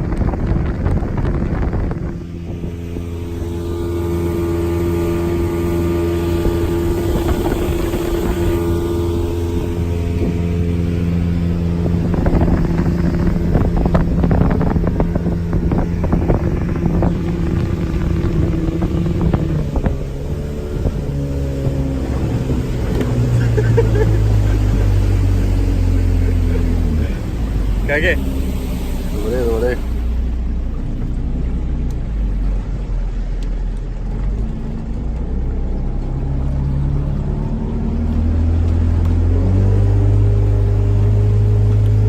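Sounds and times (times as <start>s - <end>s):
outboard engine running: 0.0s - 42.0s
wind buffeting microphone: 0.0s - 42.0s.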